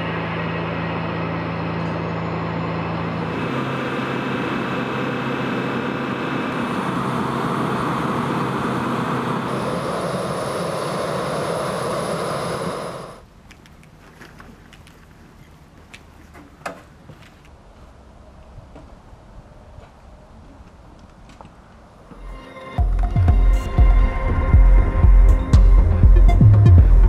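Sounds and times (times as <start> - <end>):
aircraft engines running: 0.0 - 27.0.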